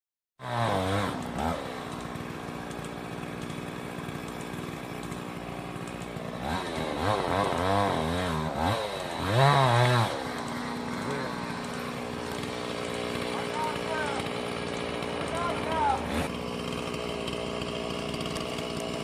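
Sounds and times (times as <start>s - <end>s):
chainsaw engine revving: 0.4s - 19.0s.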